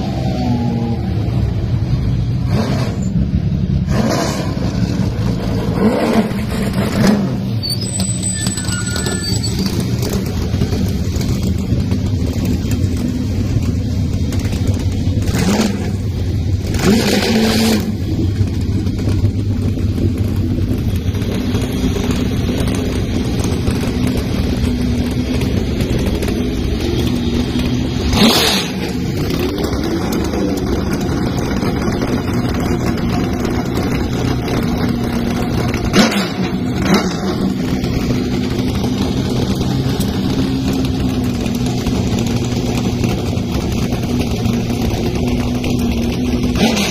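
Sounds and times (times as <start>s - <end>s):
motor vehicle engines droning: 0.0s - 46.9s.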